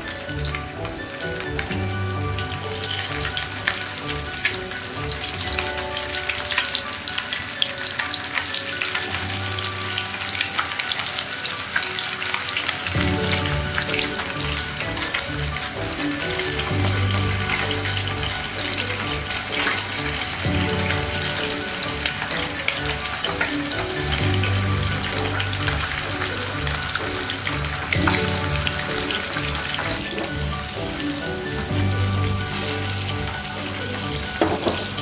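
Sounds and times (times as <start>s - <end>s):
background music: 0.0s - 35.0s
fish frying in oil: 0.0s - 35.0s.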